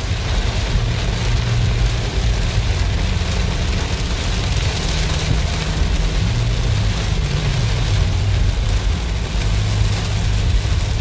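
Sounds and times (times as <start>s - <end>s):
engine and road rumble: 0.0s - 11.0s
heavy rain on car roof: 0.0s - 11.0s.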